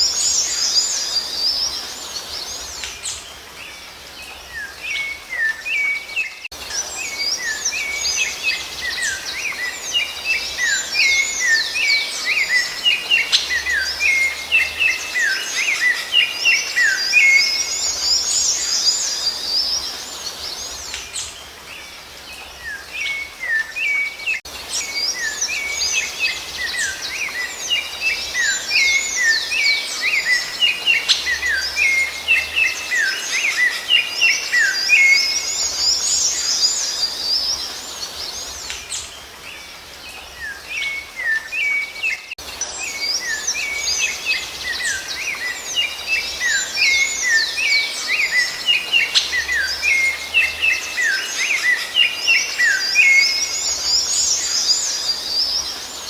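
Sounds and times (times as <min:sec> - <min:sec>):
songbirds chirping and whistling: 0:00.0 - 0:56.0.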